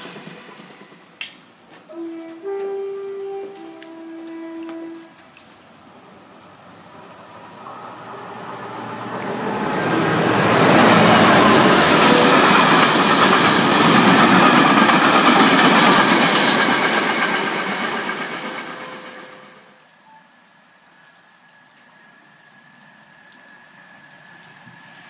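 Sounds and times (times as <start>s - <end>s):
freight train passing: 0.0s - 20.0s, 23.5s - 25.0s.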